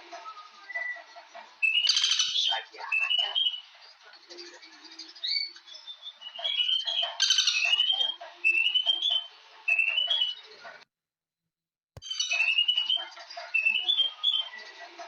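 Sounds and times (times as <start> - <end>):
birds chirping: 0.2 - 10.8, 12.0 - 15.0.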